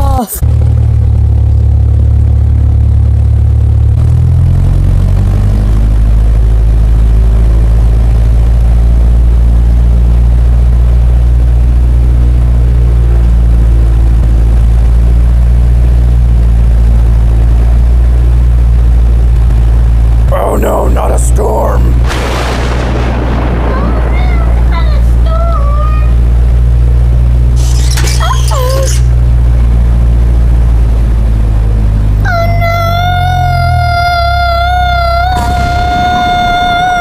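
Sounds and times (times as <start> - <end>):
airplane engine drone: 0.4 - 37.0.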